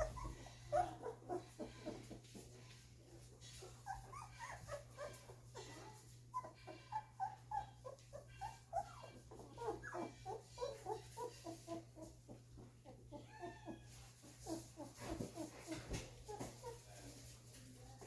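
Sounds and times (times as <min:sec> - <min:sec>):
puppies whimpering and squeaking: 0:00.0 - 0:17.2.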